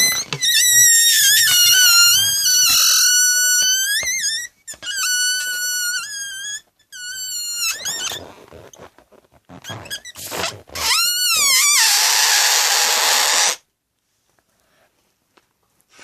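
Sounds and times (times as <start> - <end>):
balloon neck squealing: 0.0 - 13.7
balloon rustling: 0.0 - 13.7.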